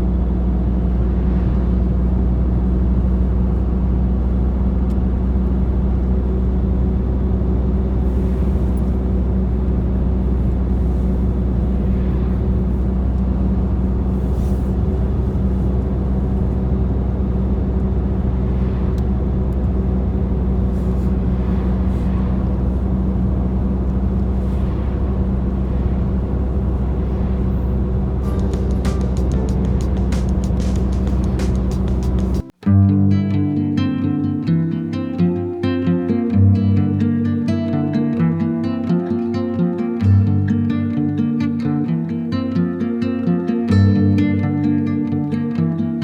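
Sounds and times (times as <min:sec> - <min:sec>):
engine droning: 0:00.0 - 0:46.0.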